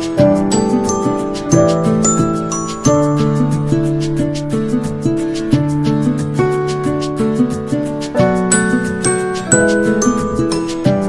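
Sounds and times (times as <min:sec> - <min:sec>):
plucked string tune with beat: 0:00.0 - 0:11.0.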